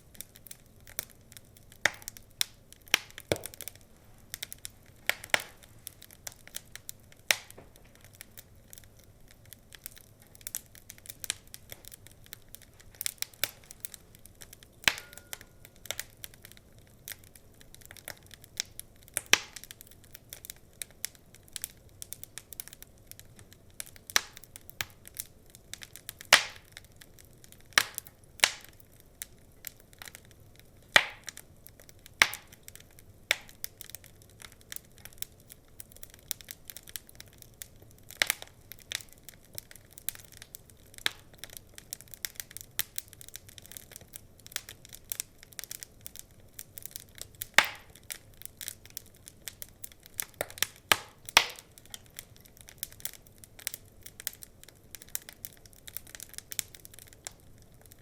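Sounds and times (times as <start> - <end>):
burning logs crackling: 0.0 - 58.0
sharp pops of burning wood: 0.0 - 58.0.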